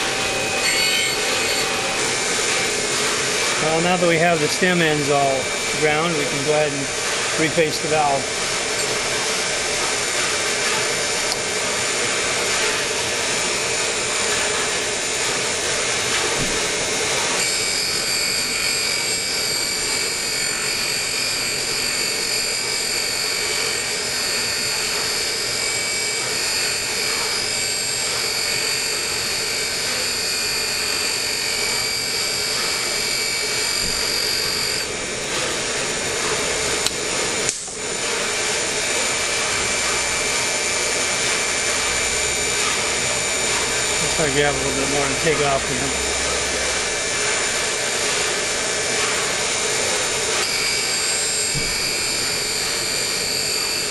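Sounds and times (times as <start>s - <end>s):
high steady whine: 0.0s - 53.9s
valve grinding machine running: 0.0s - 53.9s.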